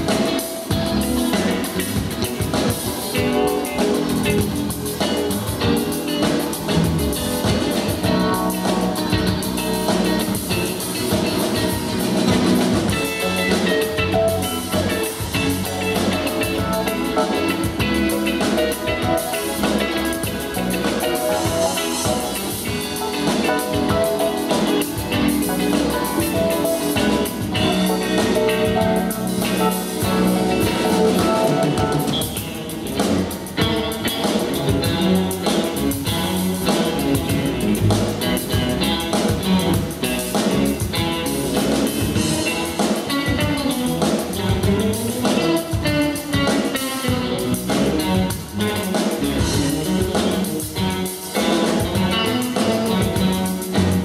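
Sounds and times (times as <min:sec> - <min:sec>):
band playing funk: 0:00.0 - 0:54.0
steady drum beat: 0:00.0 - 0:54.0.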